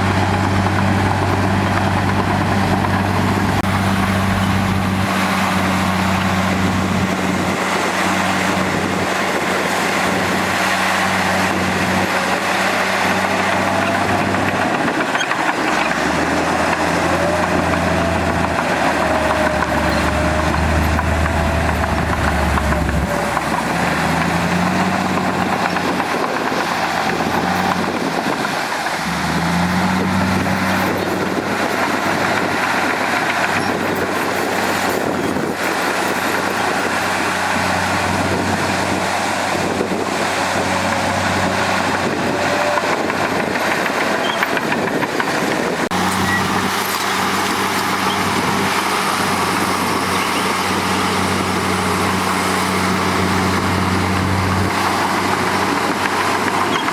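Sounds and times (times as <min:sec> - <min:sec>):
diesel machinery engine running: 0:00.0 - 0:56.9.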